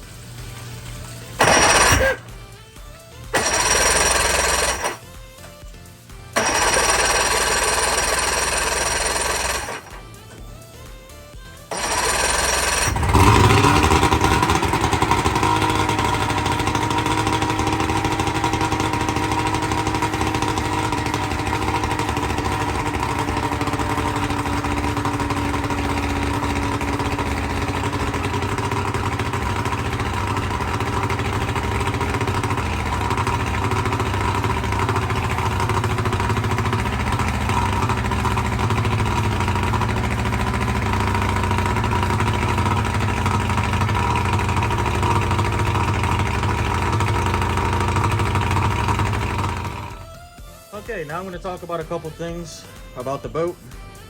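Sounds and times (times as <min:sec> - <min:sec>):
outboard motor idling: 0:00.0 - 0:53.2.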